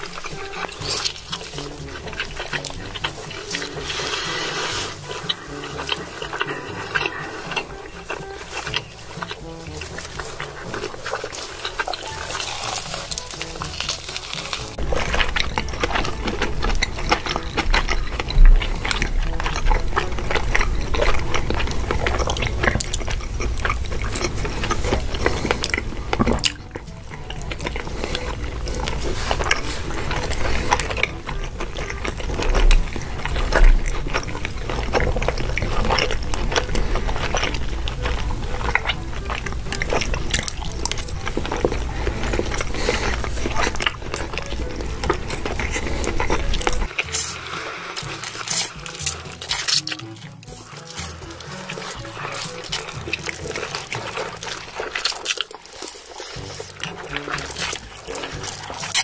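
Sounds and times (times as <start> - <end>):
wet chewing mouth sounds: 0.0 - 59.0.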